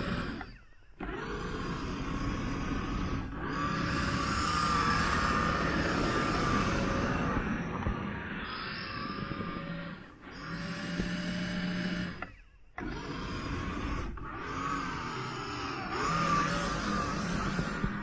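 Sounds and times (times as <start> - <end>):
toy car electric motor whining: 0.0 - 18.0.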